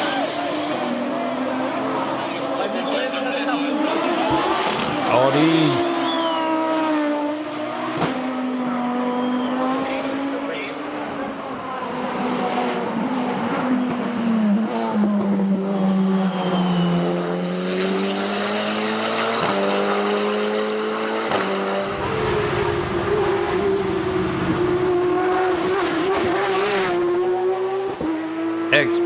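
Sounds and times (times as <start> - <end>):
race car engine running hard: 0.0 - 29.0.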